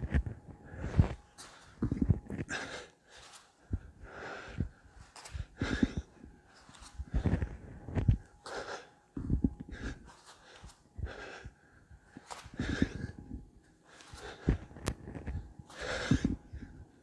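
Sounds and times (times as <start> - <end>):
man breathing hard: 0.5 - 17.0.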